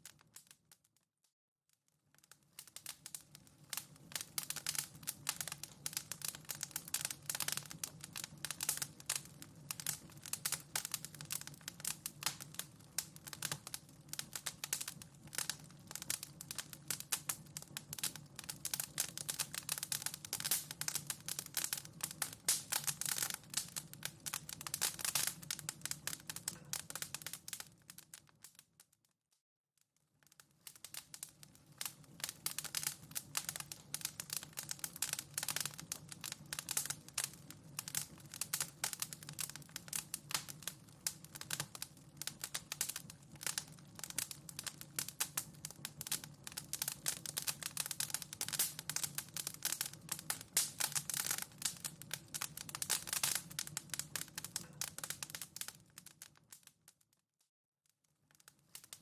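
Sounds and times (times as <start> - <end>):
wood fire crackling: 0.0 - 0.9, 2.0 - 28.8, 30.1 - 57.0, 58.3 - 59.0.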